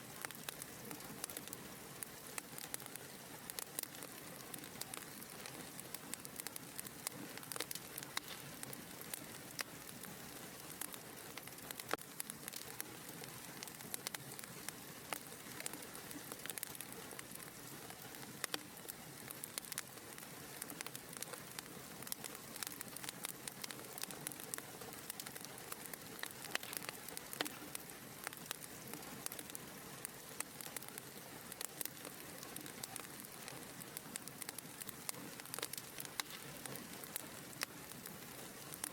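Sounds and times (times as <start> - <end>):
wood fire crackling and hissing: 0.0 - 38.9.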